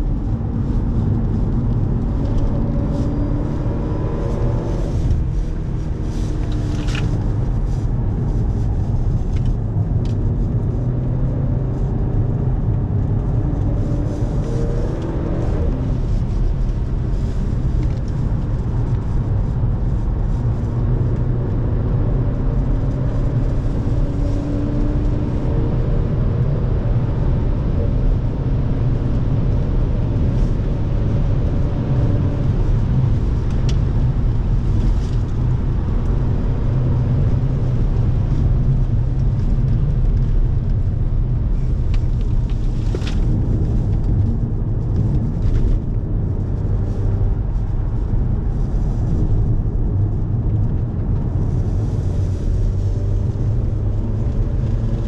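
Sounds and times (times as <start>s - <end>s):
car engine accelerating: 0.0s - 55.0s
tyre and road rumble: 0.0s - 55.0s.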